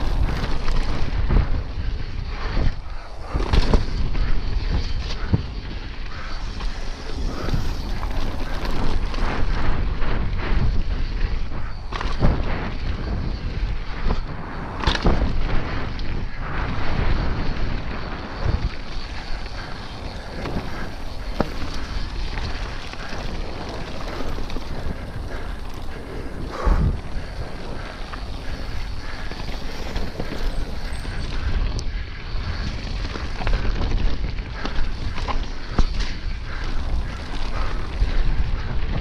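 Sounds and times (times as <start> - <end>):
mountain bike rumble and rattle: 0.0 - 39.0
wind buffeting microphone: 0.0 - 39.0.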